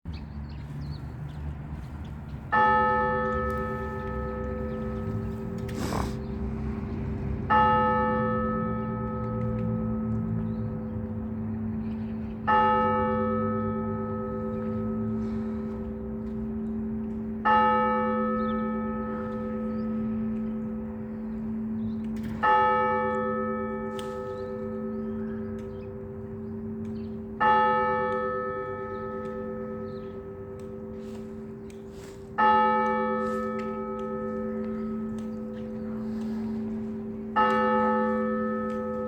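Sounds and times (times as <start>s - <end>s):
church bell tolling: 2.5s - 39.0s.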